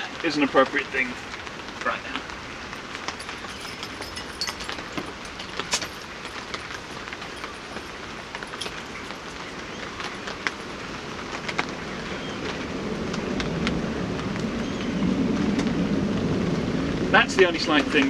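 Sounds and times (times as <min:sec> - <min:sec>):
rain pattering on a tarp: 0:00.0 - 0:18.0
aircraft rumble overhead: 0:02.4 - 0:18.0.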